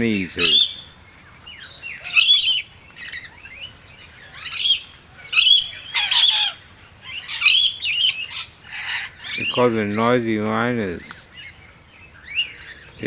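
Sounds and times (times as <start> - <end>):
birds calling harshly: 0.0 - 13.0.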